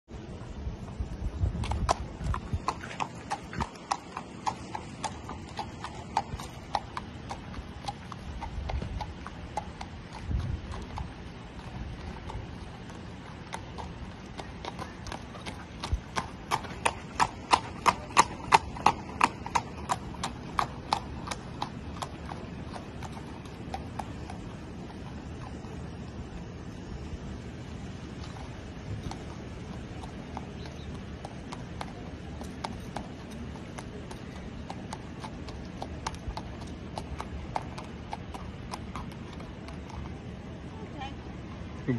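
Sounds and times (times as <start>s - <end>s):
horse hoofbeats on dirt: 0.4s - 26.1s, 27.8s - 41.7s.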